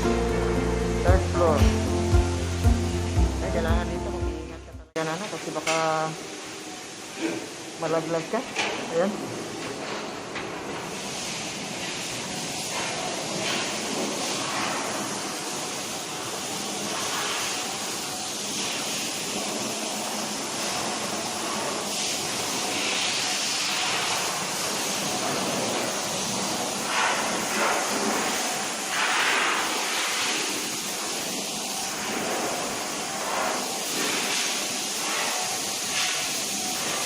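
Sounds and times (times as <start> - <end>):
mill machinery hissing: 0.0 - 4.2, 5.0 - 37.0.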